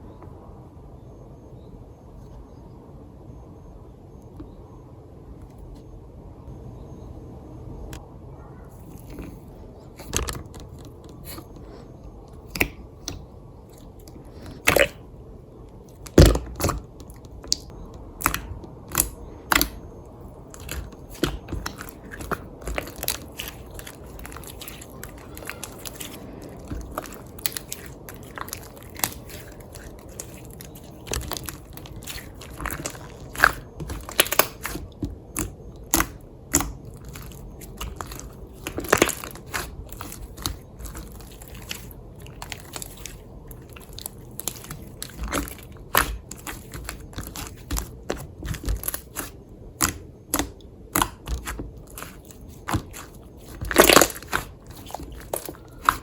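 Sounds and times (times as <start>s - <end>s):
slime squishing with sticky pops: 8.9s - 15.0s, 15.7s - 56.0s.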